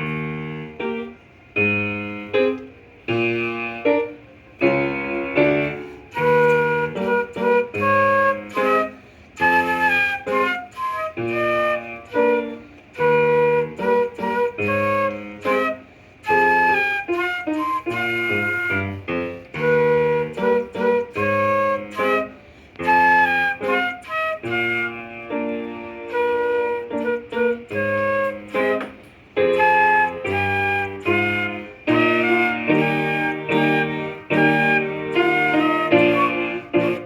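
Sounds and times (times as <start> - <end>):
piano accompaniment: 0.0 - 37.0
flute-like woodwind melody: 3.2 - 37.0.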